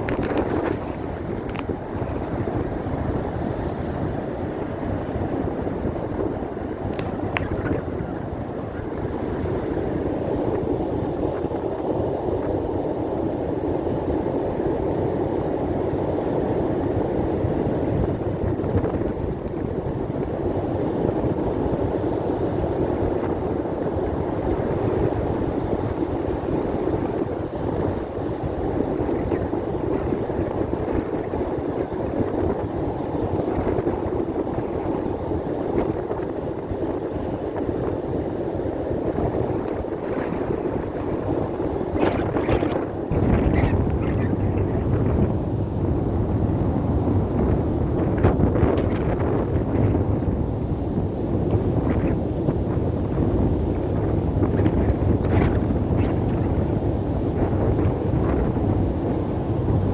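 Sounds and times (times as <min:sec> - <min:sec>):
rough sea roaring: 0:00.0 - 0:59.9
wind buffeting microphone: 0:00.0 - 0:59.9.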